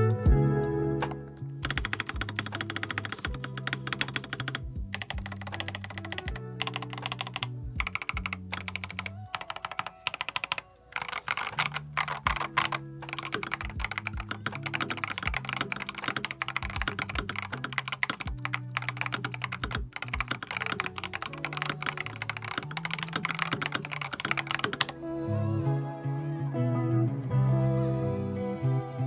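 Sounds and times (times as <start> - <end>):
background music with low notes: 0.0 - 29.0
mechanical keyboard typing: 1.6 - 25.0.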